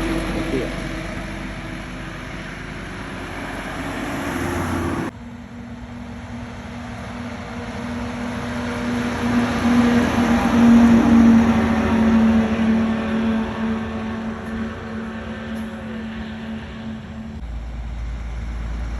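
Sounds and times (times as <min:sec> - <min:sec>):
low hum: 0:00.0 - 0:18.9
truck motor running: 0:00.0 - 0:18.9.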